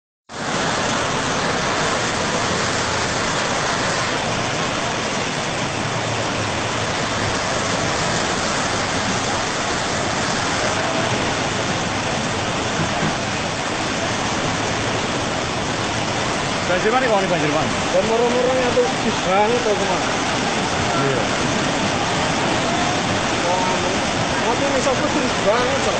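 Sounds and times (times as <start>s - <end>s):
flood water rushing: 0.3s - 25.9s.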